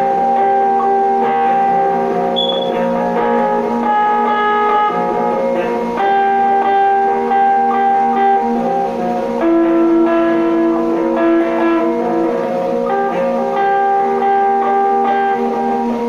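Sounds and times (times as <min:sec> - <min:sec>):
electric guitar played slowly: 0:00.0 - 0:16.0.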